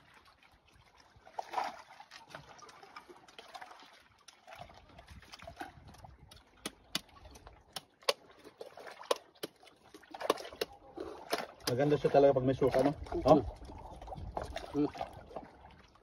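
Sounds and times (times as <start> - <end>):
faint wet splashing: 0.0 - 16.0.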